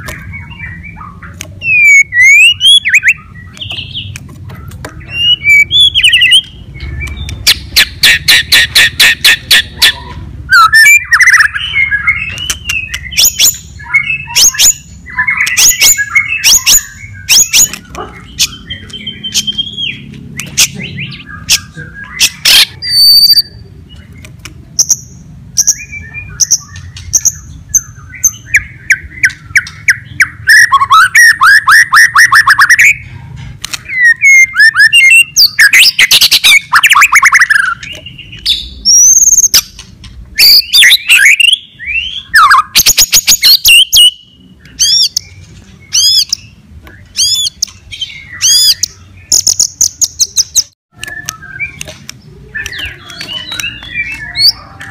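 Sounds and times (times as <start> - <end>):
songbird singing loudly: 0.0 - 33.1, 33.8 - 54.9.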